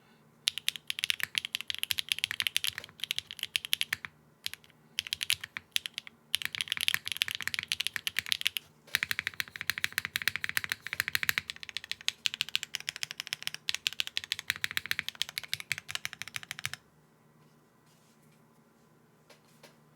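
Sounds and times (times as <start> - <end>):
clacky keyboard typing: 0.5 - 16.8.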